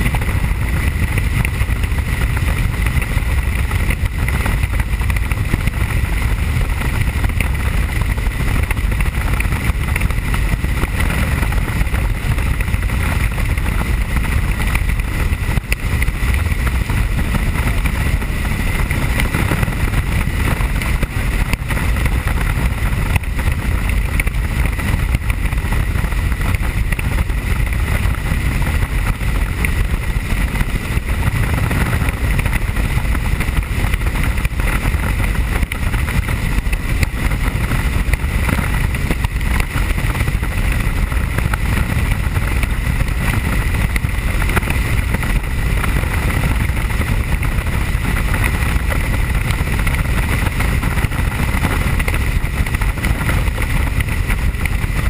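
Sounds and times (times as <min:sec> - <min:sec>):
helicopter rotor and engine drone: 0:00.0 - 0:55.0
high whine: 0:00.0 - 0:55.0.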